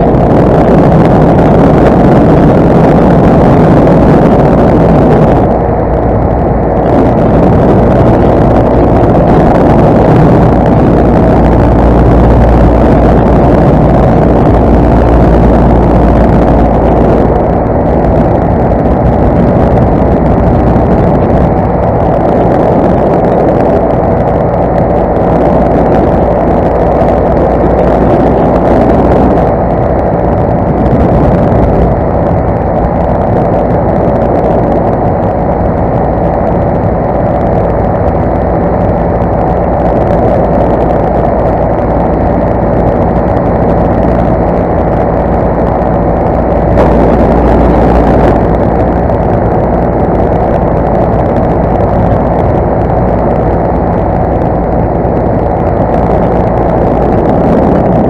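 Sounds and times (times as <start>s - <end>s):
paramotor engine droning: 0.0s - 58.0s
wind on microphone: 0.0s - 58.0s.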